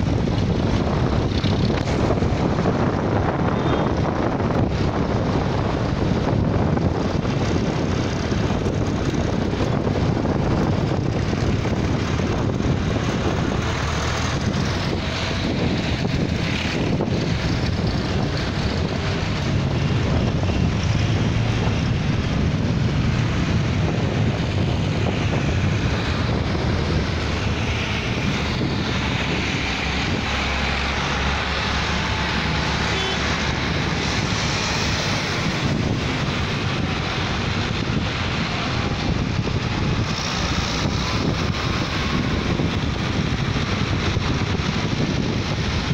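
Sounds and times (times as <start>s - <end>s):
tractor engines droning past: 5.9s - 45.9s.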